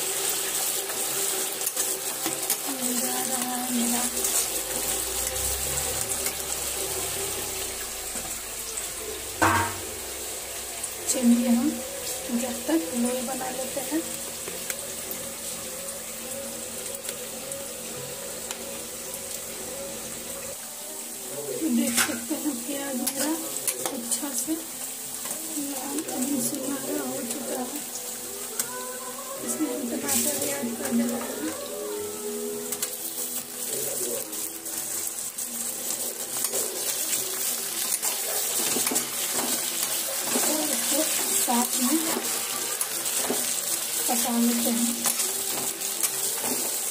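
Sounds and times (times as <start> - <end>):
hot oil sizzling: 0.0 - 46.9.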